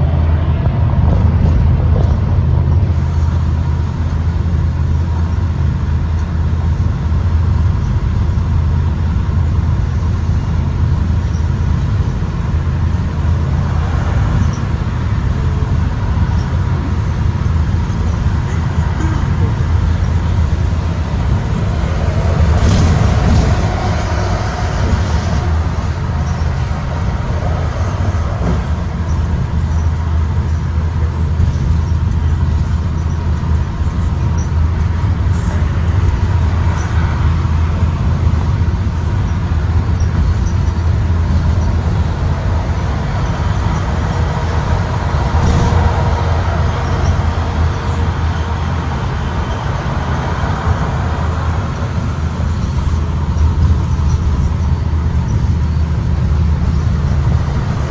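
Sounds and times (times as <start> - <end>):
bus drivetrain and road rumble: 0.0 - 57.9.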